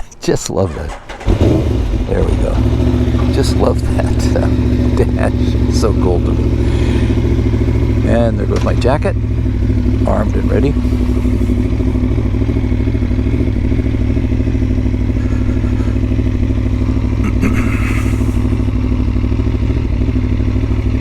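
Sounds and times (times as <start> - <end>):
motorcycle engine idling: 0.7 - 21.0.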